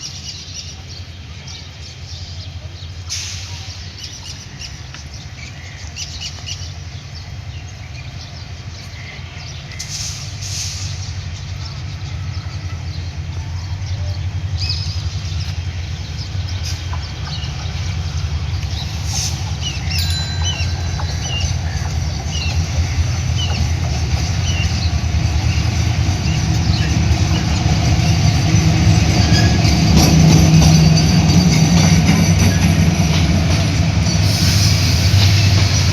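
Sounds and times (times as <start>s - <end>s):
train rumbling: 0.0s - 35.9s.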